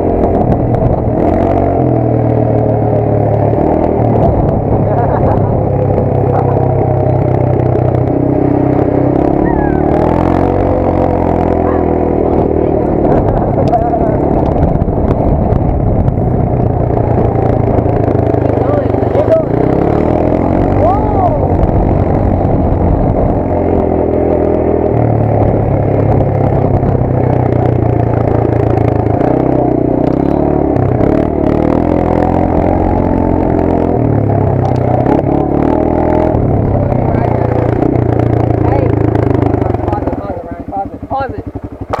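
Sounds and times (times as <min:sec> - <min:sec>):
motorcycle engine running: 0:00.0 - 0:42.0
rattling and gravel road noise: 0:00.0 - 0:42.0.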